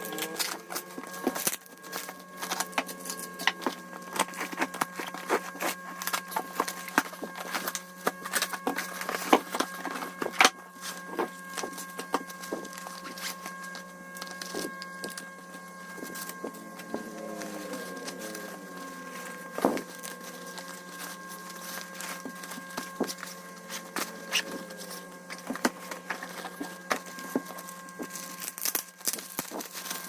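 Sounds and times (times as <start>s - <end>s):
packaging clicks and rustles: 0.0s - 30.0s
steady hum: 0.0s - 30.0s.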